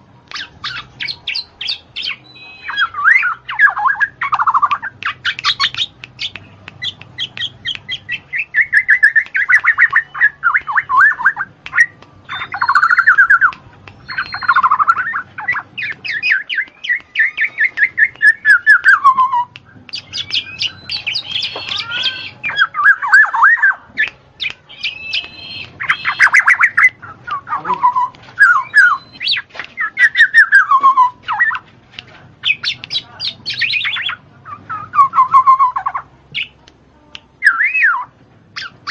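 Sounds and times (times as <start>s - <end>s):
bird singing trills: 0.3s - 31.6s, 32.4s - 36.6s, 37.4s - 38.9s.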